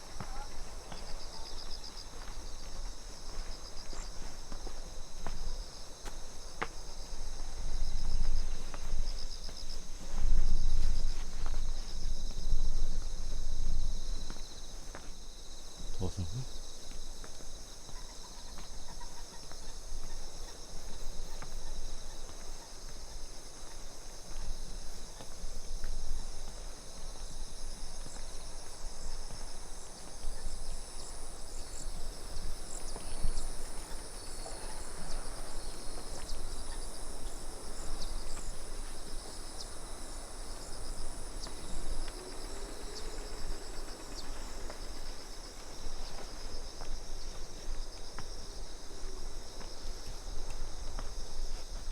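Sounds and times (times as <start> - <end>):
insects chirring: 0.0 - 51.9
low outdoor rustle: 0.0 - 51.9.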